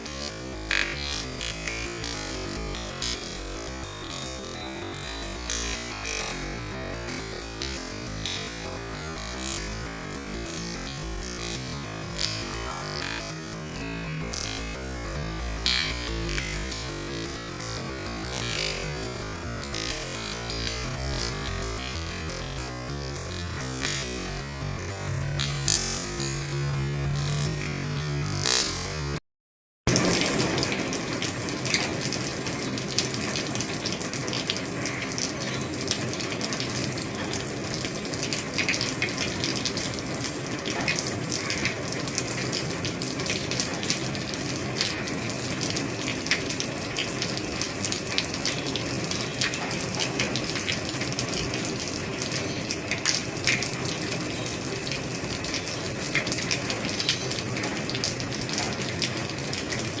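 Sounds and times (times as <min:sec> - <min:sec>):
heavy rain on a roof: 0:00.0 - 0:22.0, 0:29.9 - 1:00.0.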